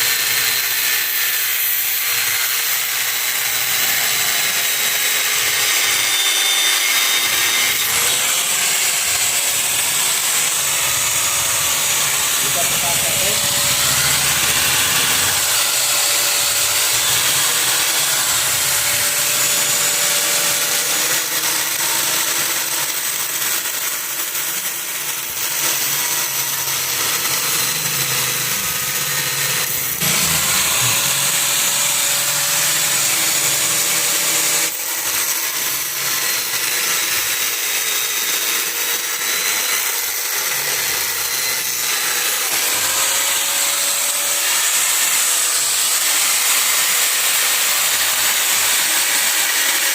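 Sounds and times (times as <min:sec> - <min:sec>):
power tool cutting plastic: 0:00.0 - 0:49.9.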